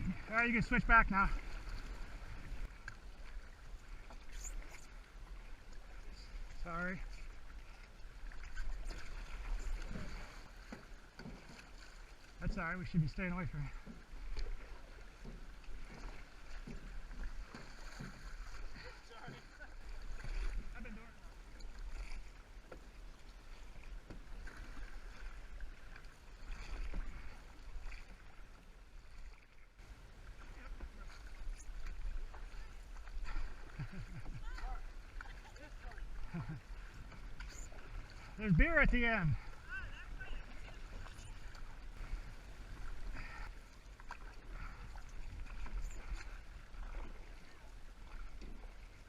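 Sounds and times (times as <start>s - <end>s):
paddle strokes splashing water: 0.0s - 49.0s.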